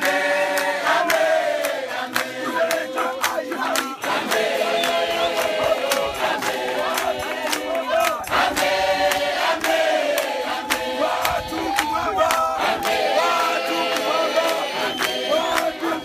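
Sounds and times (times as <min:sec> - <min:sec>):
group singing a hymn unaccompanied: 0:00.0 - 0:16.0
hand claps keeping time: 0:00.0 - 0:16.0.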